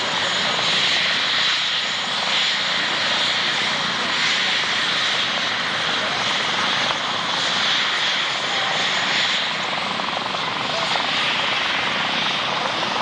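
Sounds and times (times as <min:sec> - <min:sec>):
aircraft engine: 0:00.0 - 0:13.0.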